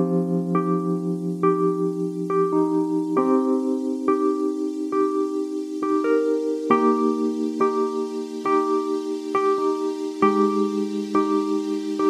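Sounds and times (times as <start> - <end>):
soft keyboard music: 0.0 - 12.0.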